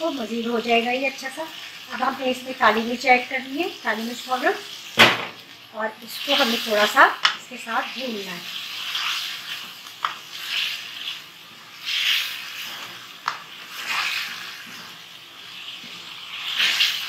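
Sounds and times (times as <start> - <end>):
chicken sizzling in a wok: 0.0 - 17.0.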